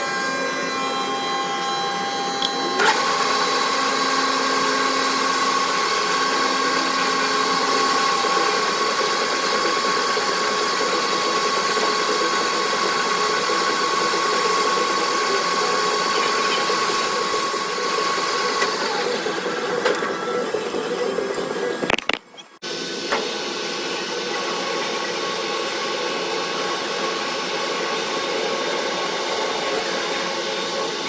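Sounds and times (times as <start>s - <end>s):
drill whine in metal: 0.0s - 22.0s, 22.6s - 31.0s
machine tool motor running: 0.0s - 31.0s.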